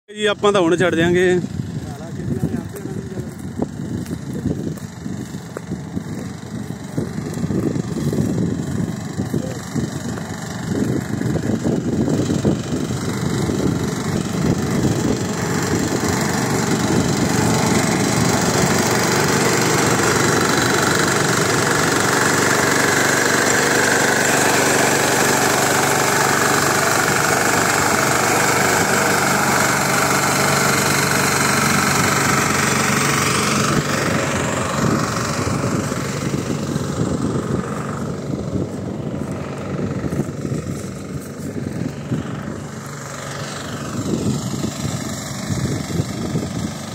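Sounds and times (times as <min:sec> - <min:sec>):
small engine running: 0:00.1 - 0:46.9.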